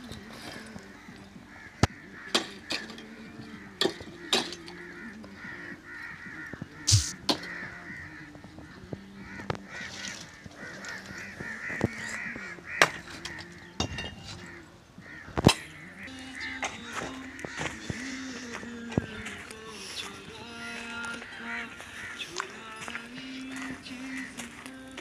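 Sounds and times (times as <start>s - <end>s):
bird calls: 0.0s - 25.0s.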